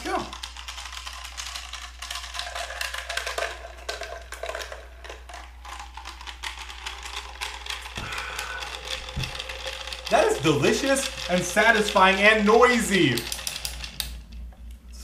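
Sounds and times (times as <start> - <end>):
ice cubes rattling in plastic tube: 0.0 - 14.1.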